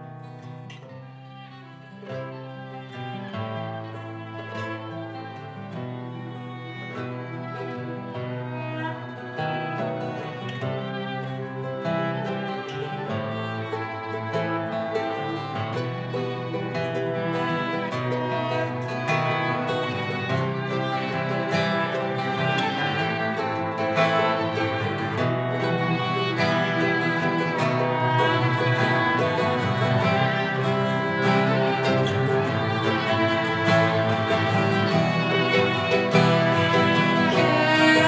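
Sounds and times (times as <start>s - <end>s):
cello bowing: 0.0s - 38.0s
strummed acoustic guitars: 0.0s - 38.0s
violin bowing: 0.0s - 38.0s.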